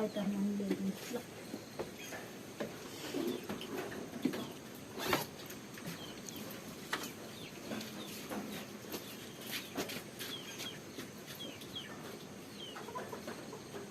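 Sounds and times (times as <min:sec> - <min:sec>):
chickens clucking: 0:00.0 - 0:13.9.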